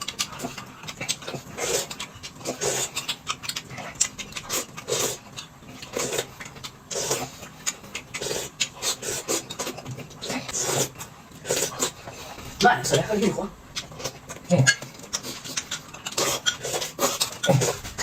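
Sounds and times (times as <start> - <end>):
person chewing and slurping: 0.0 - 18.0.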